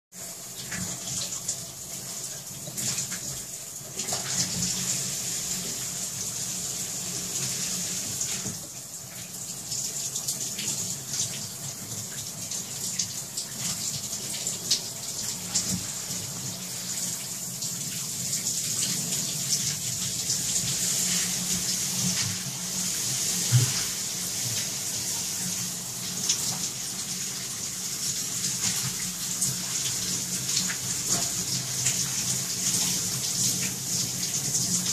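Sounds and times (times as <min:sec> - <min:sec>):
faucet water running into sink: 0:00.2 - 0:34.9.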